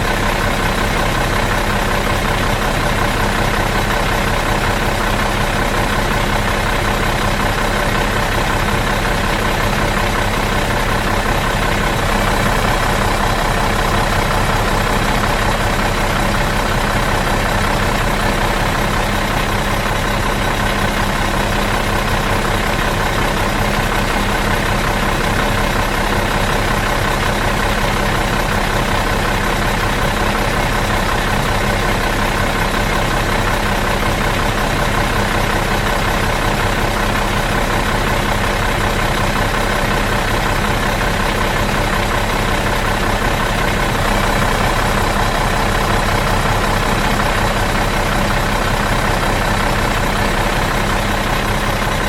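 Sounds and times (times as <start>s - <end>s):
bus engine idling: 0.0s - 52.0s.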